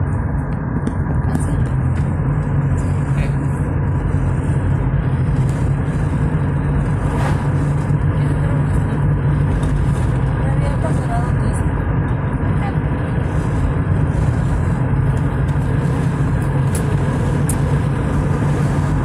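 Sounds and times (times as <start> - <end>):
car cabin engine and road noise: 0.0 - 19.0.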